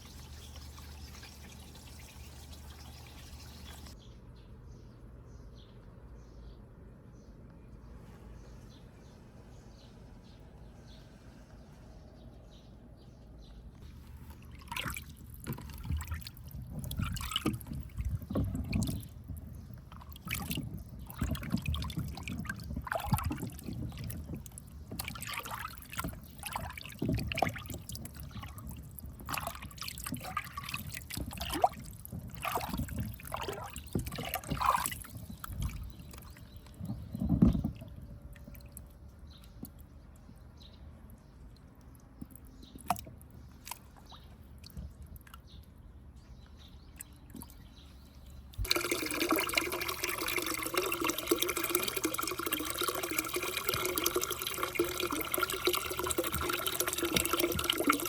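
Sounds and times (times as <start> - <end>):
water trickling and splashing: 0.0 - 4.0, 13.8 - 45.9, 46.5 - 58.0.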